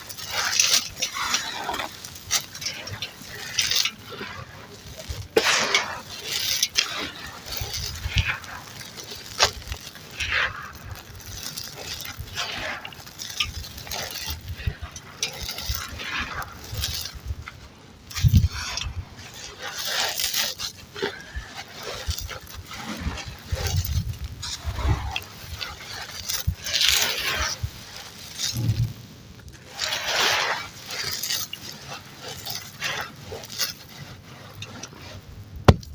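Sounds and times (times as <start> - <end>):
dirt crumbling and crunching: 0.0 - 35.9
small crackles: 0.0 - 35.9.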